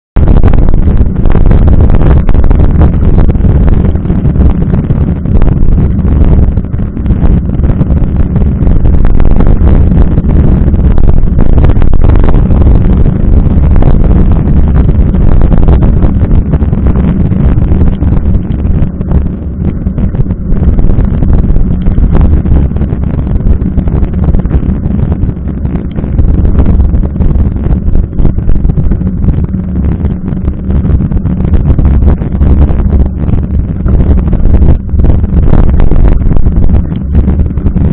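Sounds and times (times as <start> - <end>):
bike tyre road rumble: 0.0 - 37.9
wind buffeting: 0.2 - 37.9.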